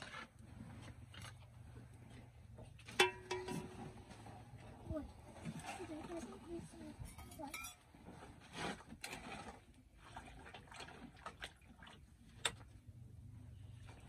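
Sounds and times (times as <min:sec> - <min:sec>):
low steady hum: 0:00.0 - 0:08.5, 0:09.8 - 0:14.0.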